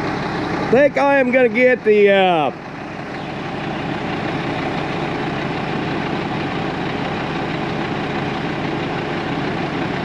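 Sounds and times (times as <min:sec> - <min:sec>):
dump truck diesel engine running: 0:00.0 - 0:10.0.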